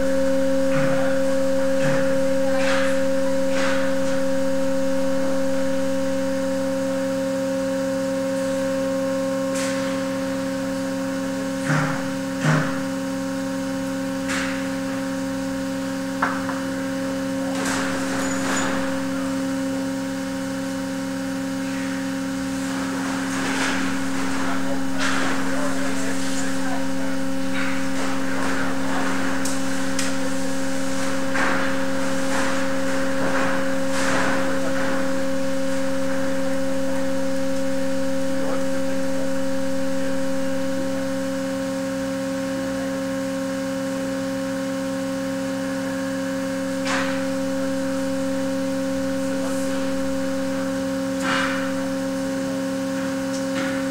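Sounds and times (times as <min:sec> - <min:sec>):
machine hum: 0:00.0 - 0:53.9.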